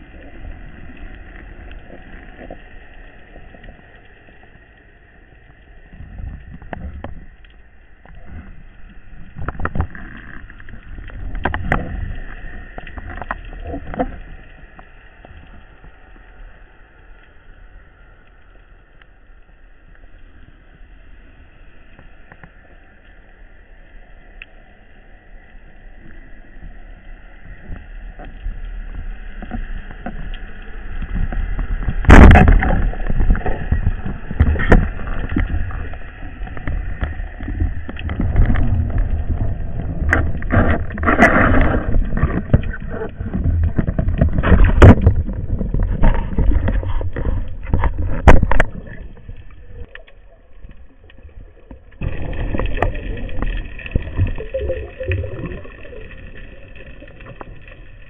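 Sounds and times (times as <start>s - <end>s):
water rushing and sloshing: 0.0s - 58.0s.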